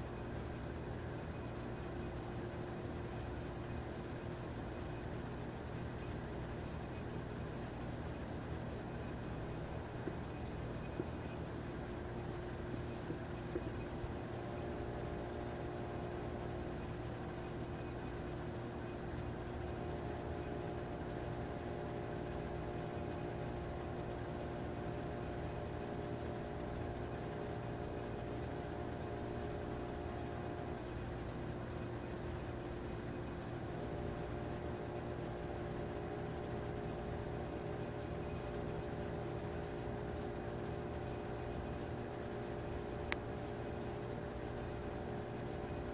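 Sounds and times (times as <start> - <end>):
machine hum with held tones: 0.0 - 45.9.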